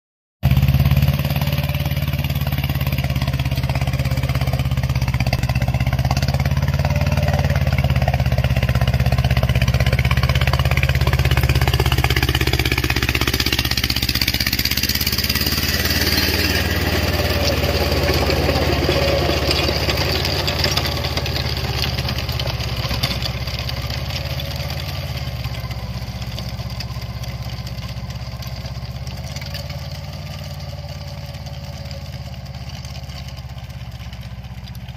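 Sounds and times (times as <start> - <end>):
tractor diesel engine running: 0.4 - 34.9
rotavator tilling soil: 0.5 - 34.9.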